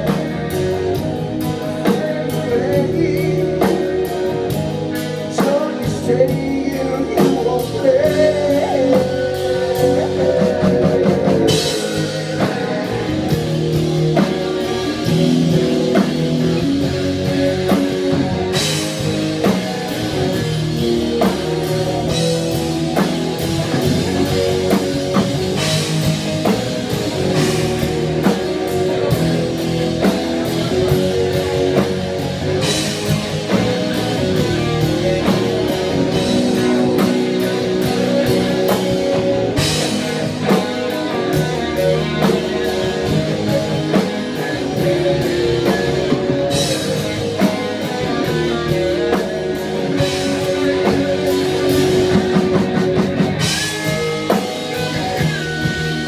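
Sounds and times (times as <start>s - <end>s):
rock band playing instrumental: 0.0s - 56.0s.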